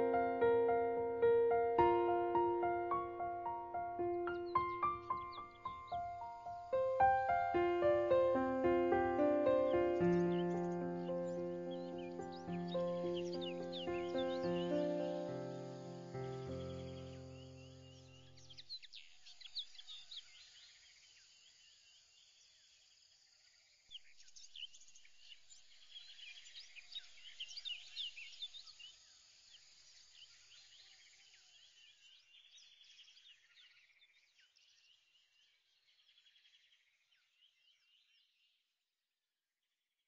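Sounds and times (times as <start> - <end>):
small birds chirping: 0.0 - 38.6.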